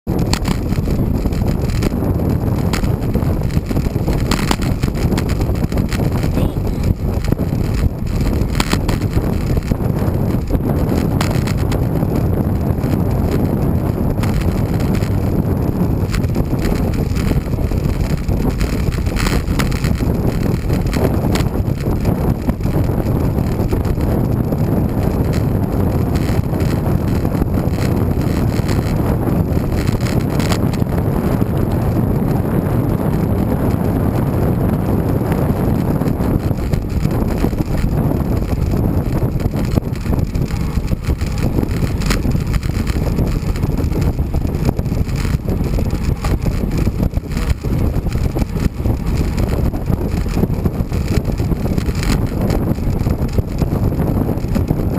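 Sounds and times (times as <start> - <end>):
wind buffeting microphone: 0.1 - 54.9.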